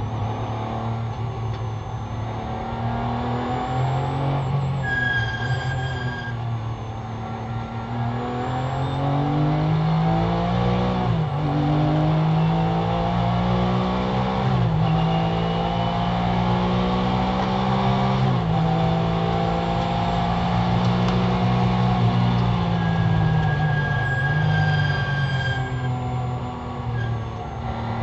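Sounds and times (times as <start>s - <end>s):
race car engine revving: 2.1s - 28.0s.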